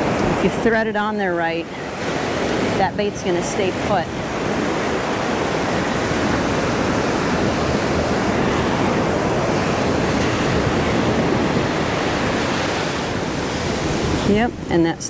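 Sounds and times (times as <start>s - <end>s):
ocean waves breaking on sand: 0.0s - 15.0s.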